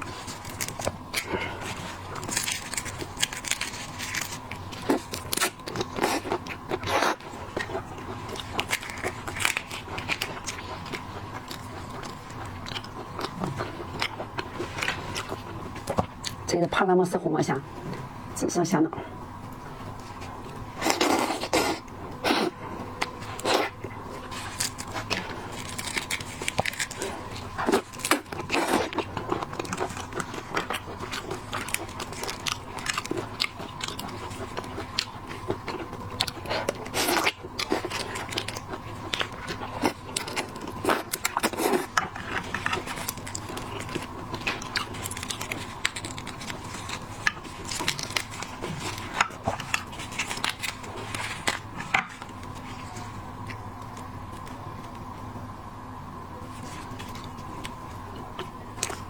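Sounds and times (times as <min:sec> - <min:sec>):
biting chewing and crunching: 0:00.0 - 0:16.5, 0:19.6 - 0:55.2, 0:56.4 - 0:59.0
faint hum: 0:00.0 - 0:59.0.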